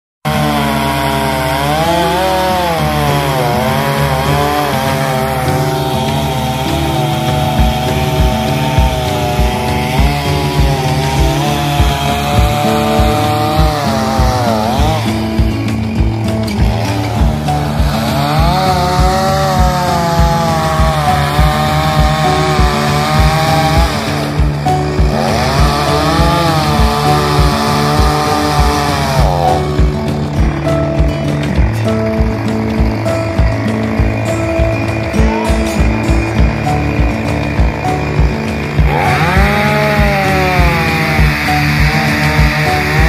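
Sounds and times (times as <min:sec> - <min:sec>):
chainsaw cutting: 0:00.2 - 0:43.0
background music with steady beat: 0:00.3 - 0:43.0.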